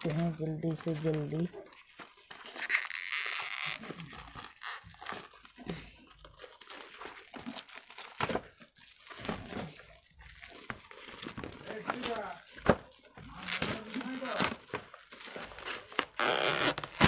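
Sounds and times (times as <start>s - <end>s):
plastic shrink-wrap tearing and crinkling: 0.0s - 17.0s.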